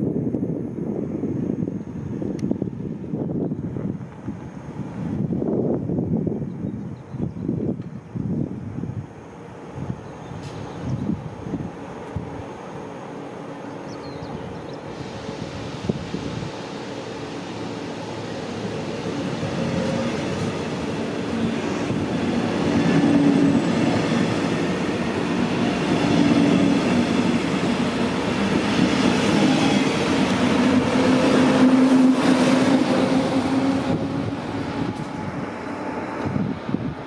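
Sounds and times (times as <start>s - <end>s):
train wheels on rails: 2.1s - 5.6s, 9.3s - 37.0s.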